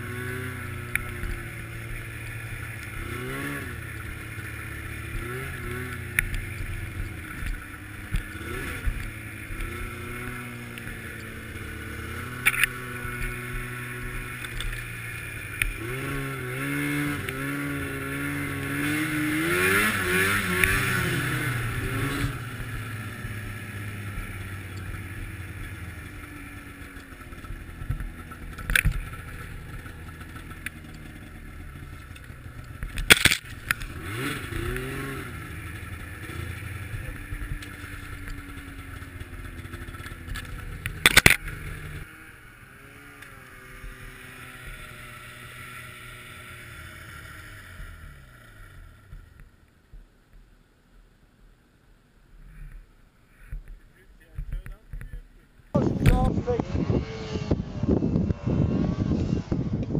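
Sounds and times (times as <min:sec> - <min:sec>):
snowmobile engine running: 0:00.0 - 0:49.4, 0:52.4 - 0:59.9.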